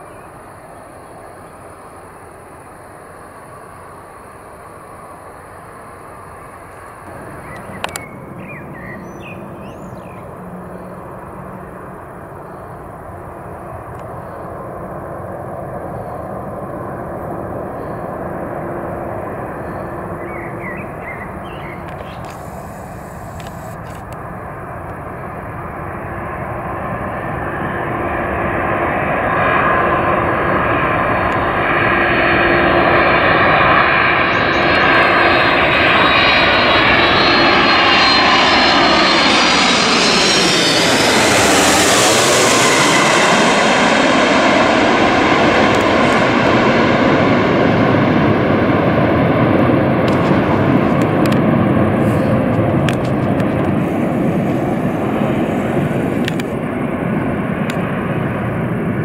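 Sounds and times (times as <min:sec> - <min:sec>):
jet engines passing overhead: 0:00.0 - 0:59.0.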